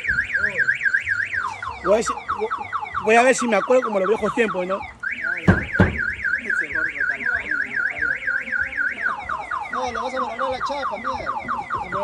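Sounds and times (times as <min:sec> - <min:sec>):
car alarm warbling and chirping: 0:00.0 - 0:12.0.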